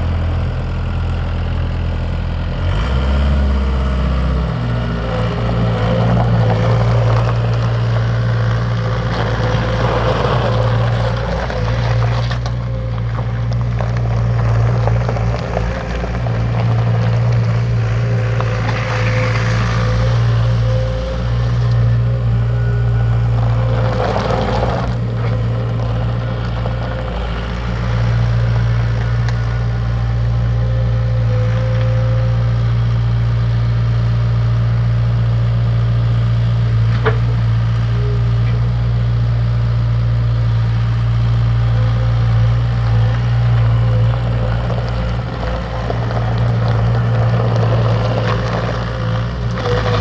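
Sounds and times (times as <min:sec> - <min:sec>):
diesel engine humming: 0:00.0 - 0:50.0.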